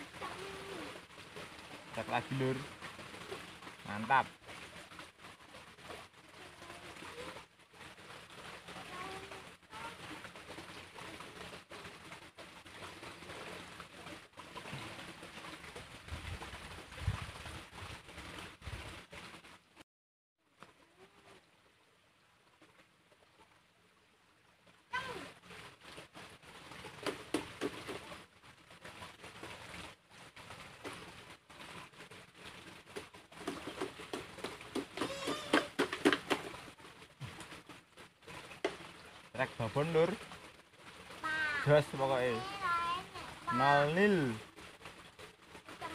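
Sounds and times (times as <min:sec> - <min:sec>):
steady outdoor hiss: 0:00.0 - 0:19.8, 0:20.4 - 0:45.9.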